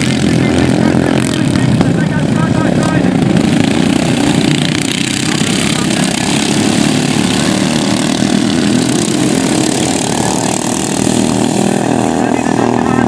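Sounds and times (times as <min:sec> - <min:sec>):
lawn mower engines droning: 0:00.0 - 0:13.0.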